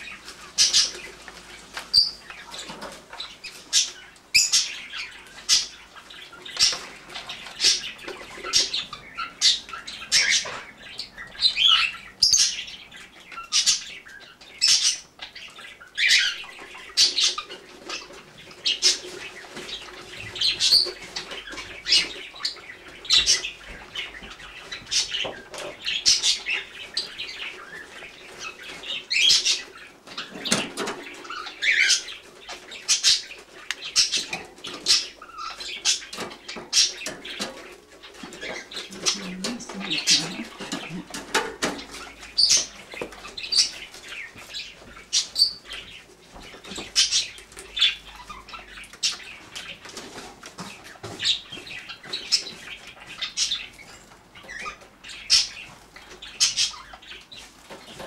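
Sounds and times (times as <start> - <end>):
canary chirping: 0.0 - 58.0.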